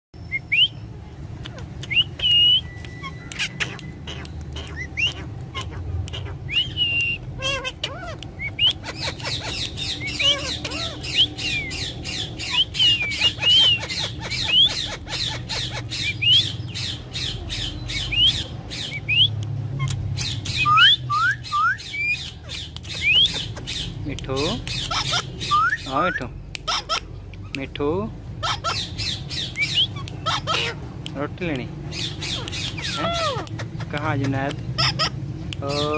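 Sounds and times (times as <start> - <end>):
parakeet calling: 0.3 - 35.9.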